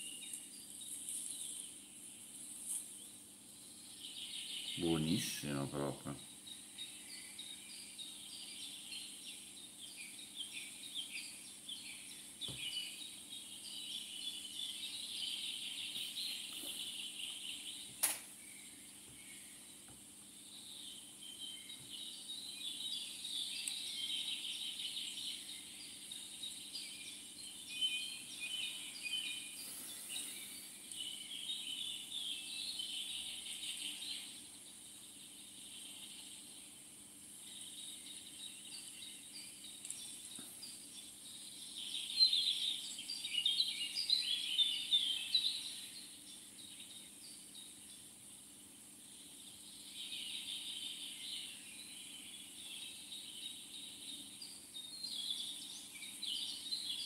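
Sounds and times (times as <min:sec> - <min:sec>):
faint steady hum: 0:00.0 - 0:57.0
small songbirds chirping: 0:00.0 - 0:57.0.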